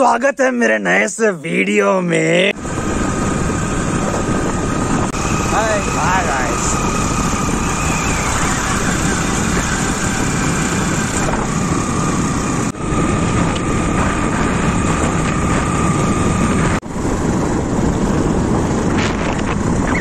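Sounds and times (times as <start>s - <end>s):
wind rushing over microphone: 2.5s - 20.0s
motorbike engine: 2.6s - 20.0s.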